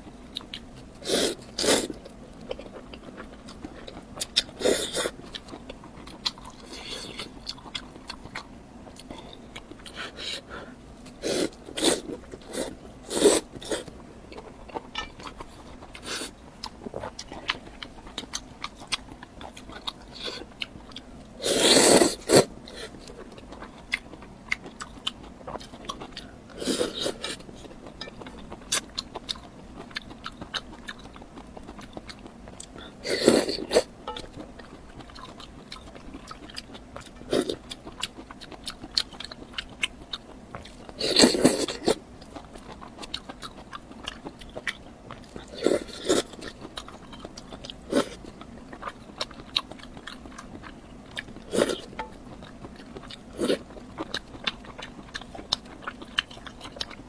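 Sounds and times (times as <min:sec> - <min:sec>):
chewing with wet mouth clicks: 0:00.3 - 0:10.2, 0:11.0 - 0:21.4, 0:22.2 - 0:57.0.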